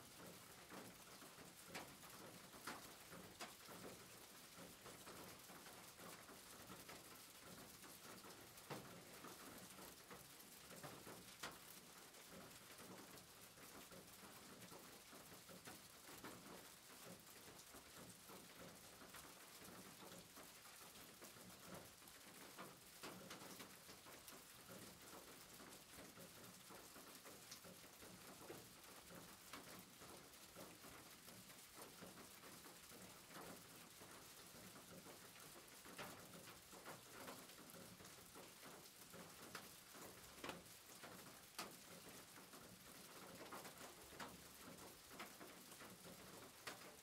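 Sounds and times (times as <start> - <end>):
rain pattering on roof: 0.0 - 47.0.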